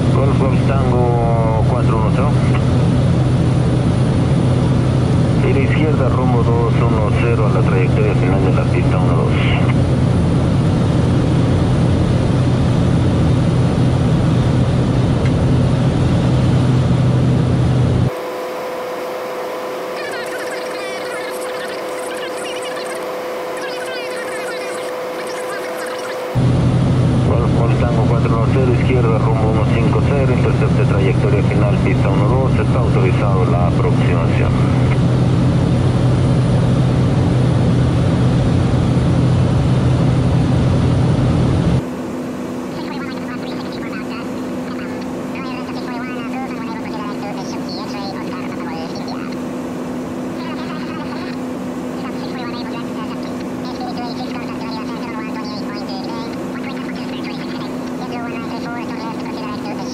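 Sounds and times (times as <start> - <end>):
propeller engine droning: 0.0 - 59.9
steady cockpit hum: 0.0 - 59.9.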